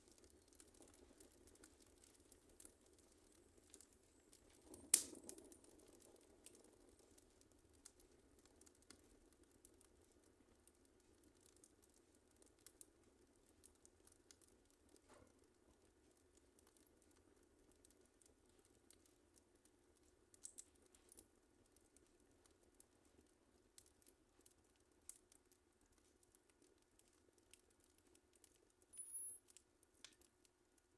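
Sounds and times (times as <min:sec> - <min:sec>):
wood fire crackling faintly: 0:00.0 - 0:30.9.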